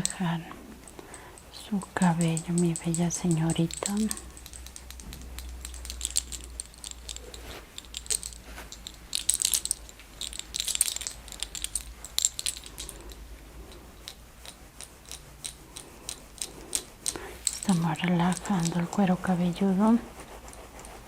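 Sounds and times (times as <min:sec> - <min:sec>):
hands working through hair: 0:00.0 - 0:21.0.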